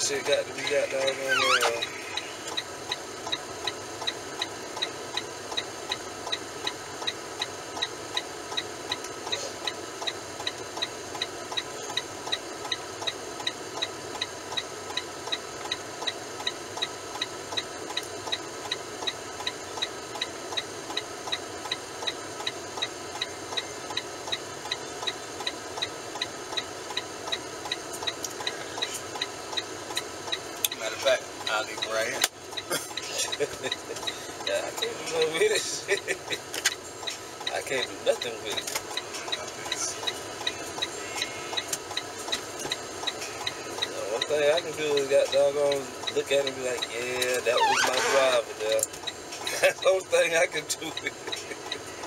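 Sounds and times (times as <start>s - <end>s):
truck cab hum: 0.0s - 52.0s
turn-signal relay ticking: 0.0s - 52.0s.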